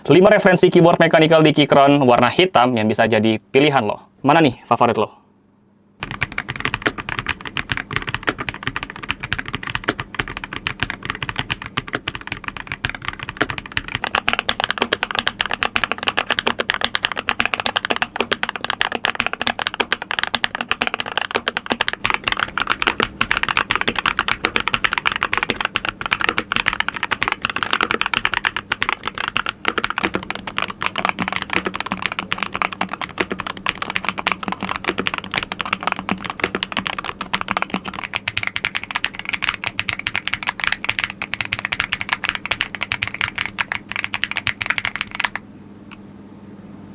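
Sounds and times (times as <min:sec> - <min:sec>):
mechanical keyboard typing: 0:06.0 - 0:45.4.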